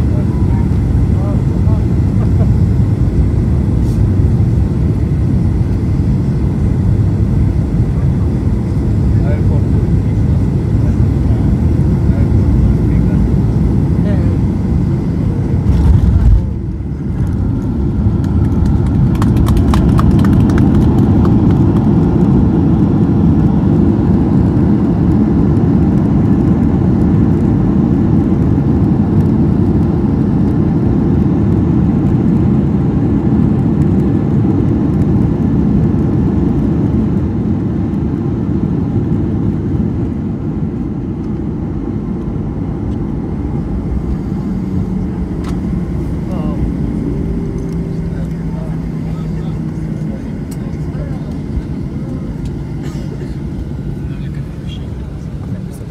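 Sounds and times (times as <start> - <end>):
aircraft engines rumbling: 0.0 - 55.9.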